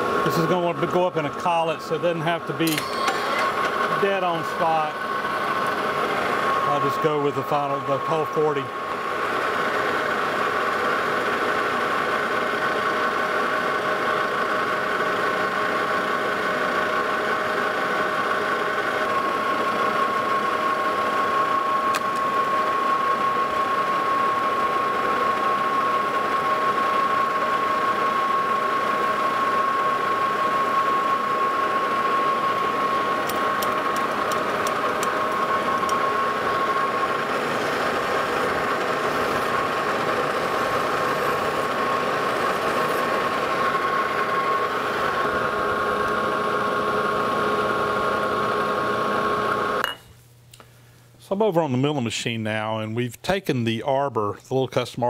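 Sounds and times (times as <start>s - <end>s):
metal lathe running: 0.0s - 50.0s
steady whine: 0.0s - 53.1s.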